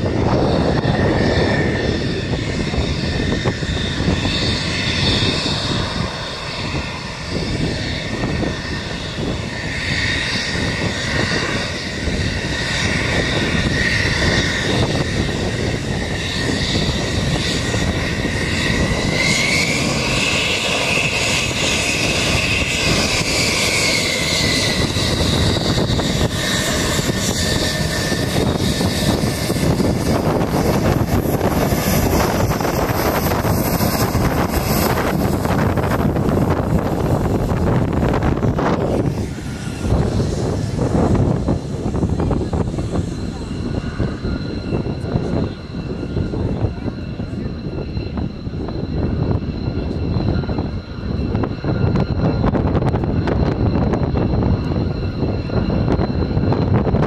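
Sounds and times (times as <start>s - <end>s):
jet engine whine and rumble: 0.0s - 57.0s.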